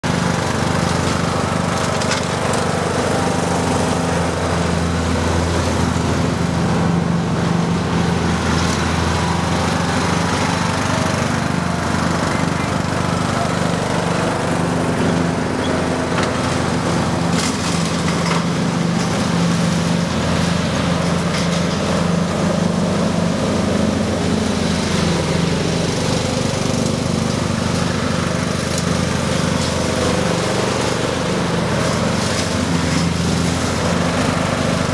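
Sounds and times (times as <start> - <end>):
lawn tractor engine droning: 0.0 - 34.9.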